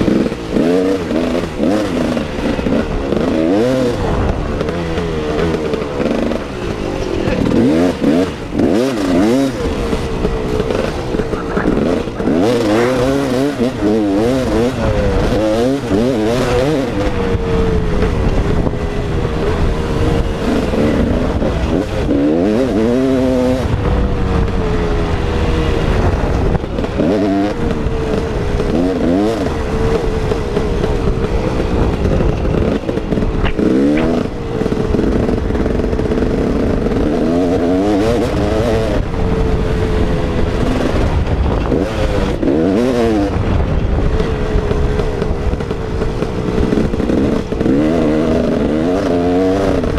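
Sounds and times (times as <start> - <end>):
dirt bike engine revving: 0.0 - 49.9
rush of noise: 0.0 - 49.9.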